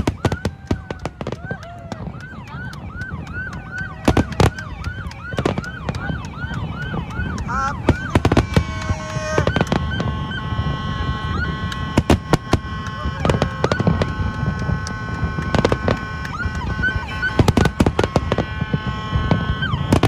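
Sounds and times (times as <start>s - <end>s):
fireworks bangs: 0.0s - 20.0s
high whistling tones: 0.0s - 20.0s
siren-like whoop: 0.0s - 20.0s.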